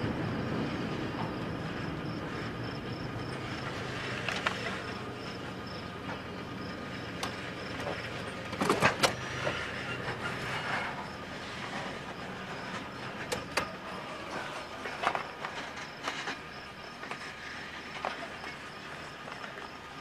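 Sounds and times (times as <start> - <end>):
train rolling noise: 0.0 - 20.0.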